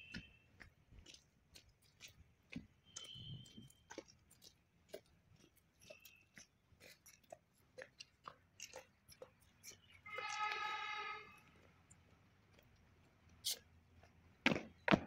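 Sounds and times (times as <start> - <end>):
footsteps on paving stones: 0.0 - 15.0.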